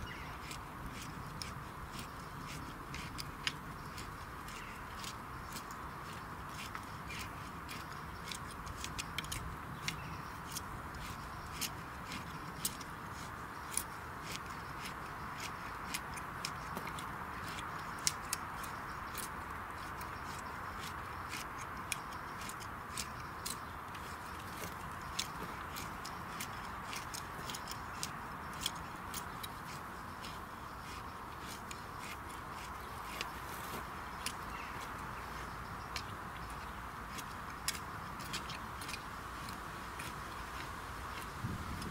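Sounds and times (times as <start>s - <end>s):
garden hoe scraping dry soil: 0.0s - 41.9s.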